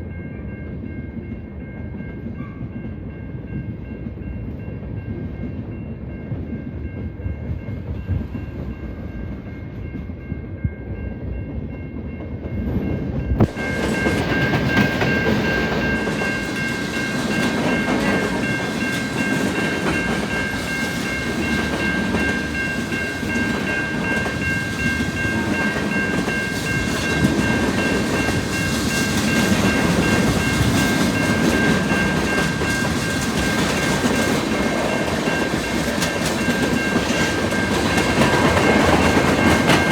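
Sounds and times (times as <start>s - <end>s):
train clattering past: 0.0s - 39.9s.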